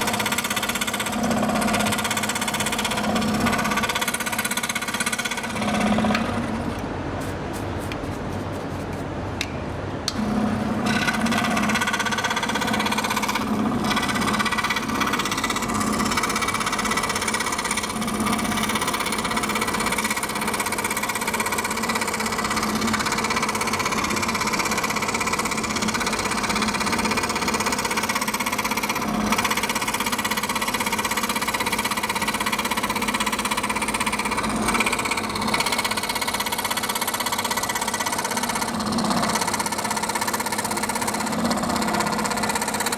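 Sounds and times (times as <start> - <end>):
scroll saw cutting wood: 0.0 - 6.6, 10.4 - 42.9.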